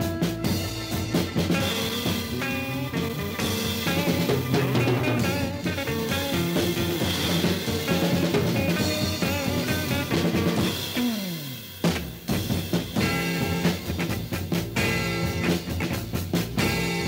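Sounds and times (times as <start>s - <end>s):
lead electric guitar bending notes: 0.0s - 14.2s
bass guitar: 0.0s - 17.0s
drum kit: 0.0s - 17.0s.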